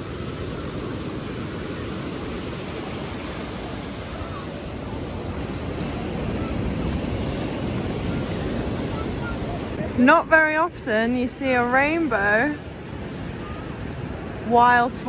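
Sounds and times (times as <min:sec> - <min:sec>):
wind and sea rushing: 0:00.0 - 0:15.0
wind buffeting microphone: 0:00.0 - 0:15.0.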